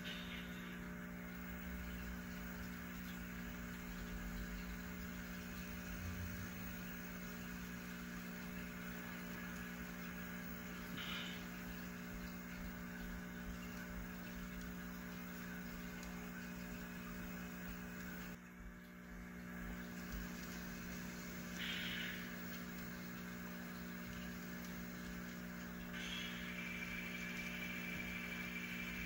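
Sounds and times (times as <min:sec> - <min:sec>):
model trains electrical hum: 0:00.0 - 0:29.0.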